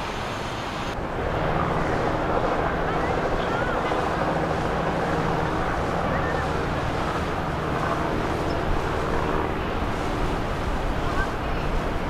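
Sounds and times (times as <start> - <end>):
boat engines droning: 0.0 - 12.0
water washing along hull: 0.0 - 12.0.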